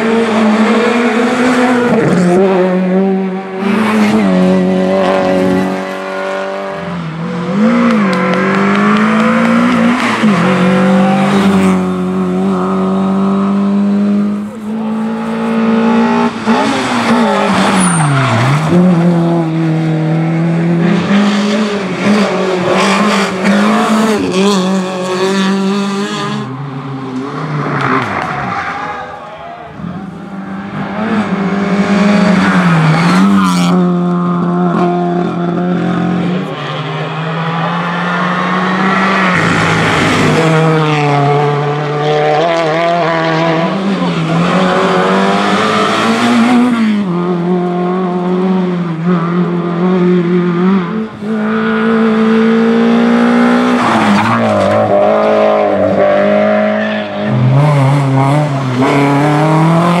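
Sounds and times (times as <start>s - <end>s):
rally car engines revving: 0.0s - 60.0s.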